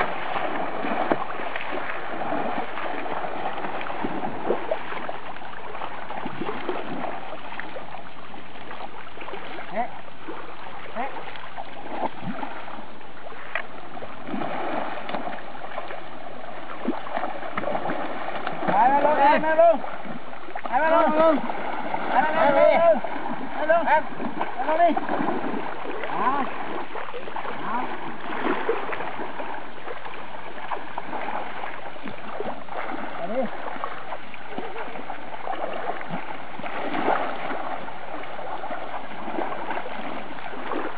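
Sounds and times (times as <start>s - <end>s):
elephants splashing in water: 0.0s - 40.9s
sharp splashes: 0.0s - 40.9s.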